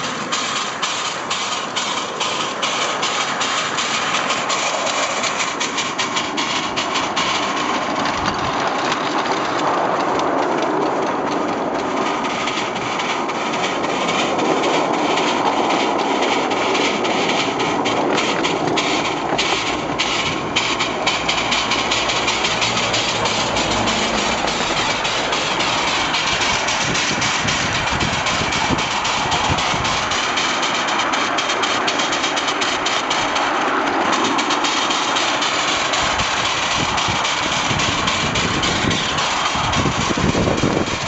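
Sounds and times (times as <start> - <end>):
miniature steam locomotive running: 0.0 - 41.0
rapid wheel clicking: 0.0 - 41.0.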